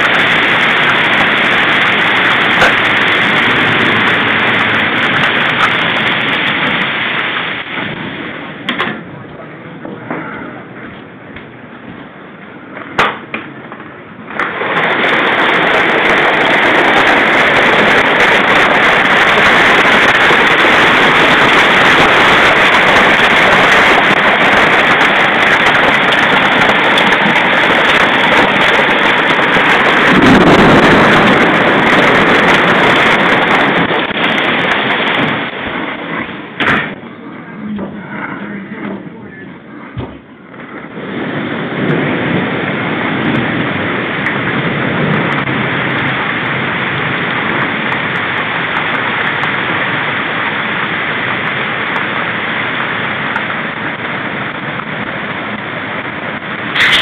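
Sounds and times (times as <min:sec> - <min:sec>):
heavy hail pelting: 0:00.0 - 0:57.0.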